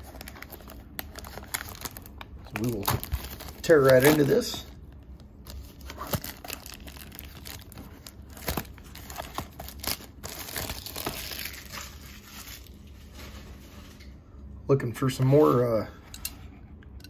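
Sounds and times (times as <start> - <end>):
plastic packaging crinkling: 0.0 - 14.1.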